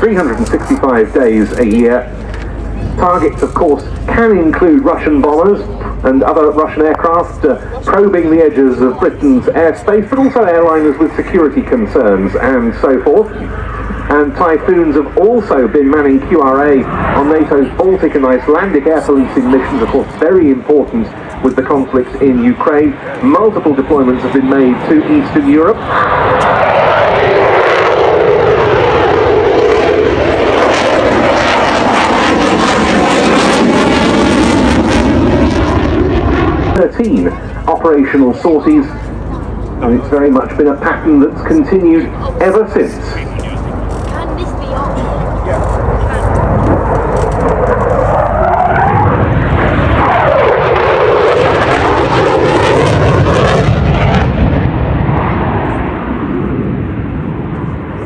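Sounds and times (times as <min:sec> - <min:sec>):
jet engines roaring overhead: 0:00.0 - 0:58.0.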